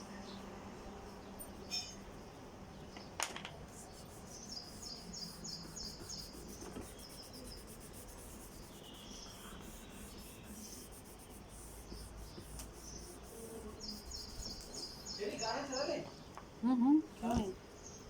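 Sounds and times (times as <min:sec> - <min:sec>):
small bird chirping: 0:01.2 - 0:16.4.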